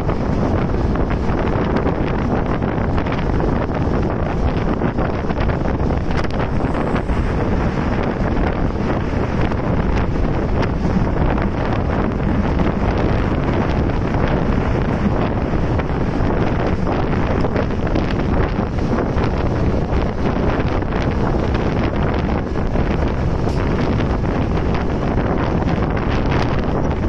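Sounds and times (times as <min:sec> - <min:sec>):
train running on track: 0:00.0 - 0:27.0
wind buffeting microphone: 0:00.0 - 0:27.0.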